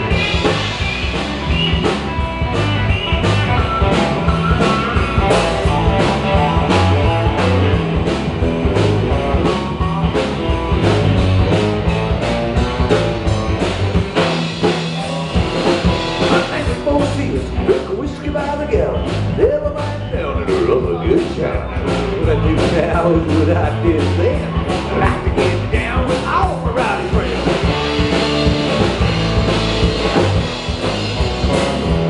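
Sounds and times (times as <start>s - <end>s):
rock band playing: 0.0s - 32.0s
steady drum beat: 0.0s - 32.0s.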